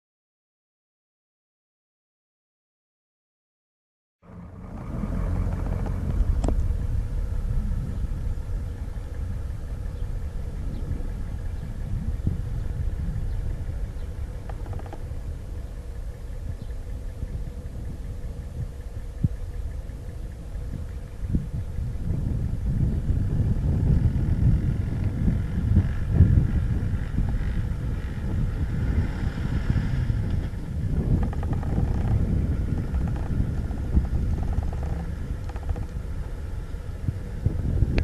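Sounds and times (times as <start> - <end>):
diesel truck engine rumbling: 4.2 - 38.0.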